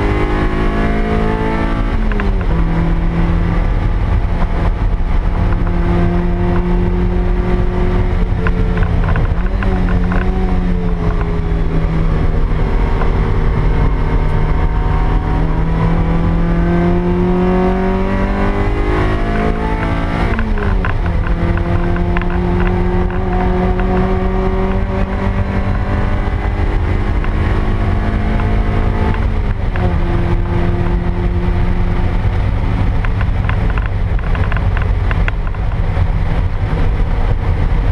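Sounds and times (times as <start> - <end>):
car engine under hard driving: 0.0 - 37.9.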